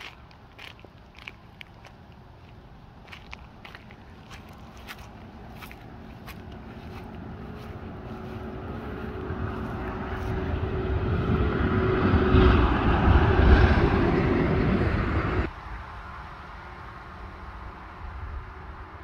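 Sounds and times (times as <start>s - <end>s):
engine running: 0.0s - 15.6s
low hum: 0.0s - 19.0s.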